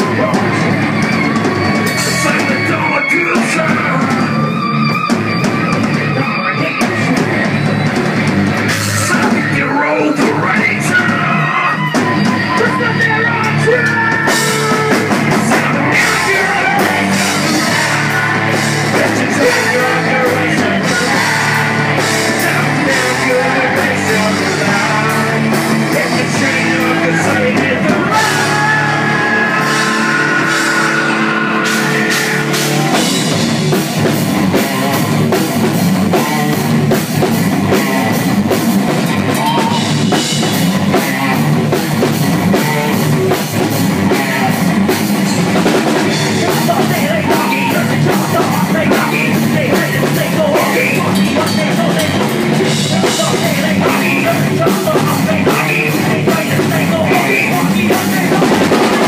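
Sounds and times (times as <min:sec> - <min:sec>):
rap metal song: 0:00.0 - 0:59.0.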